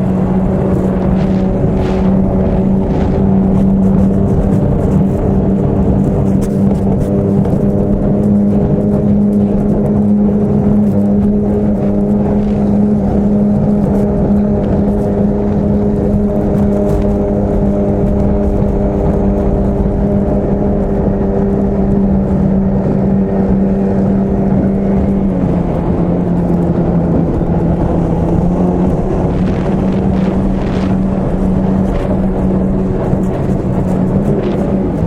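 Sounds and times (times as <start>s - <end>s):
outboard motor running: 0.0s - 35.0s
water and wind noise: 0.0s - 35.0s.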